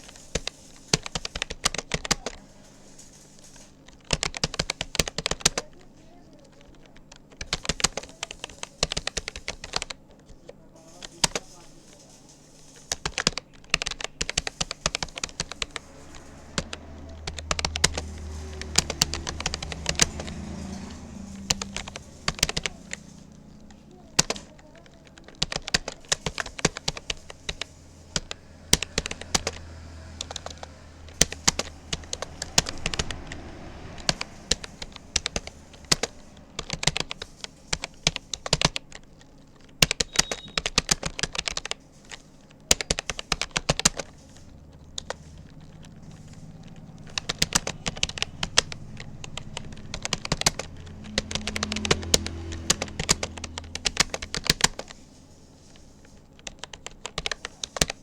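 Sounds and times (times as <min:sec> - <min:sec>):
keyboard keystroke clicks: 0:00.0 - 0:12.0, 0:12.6 - 0:55.0, 0:55.7 - 0:58.0.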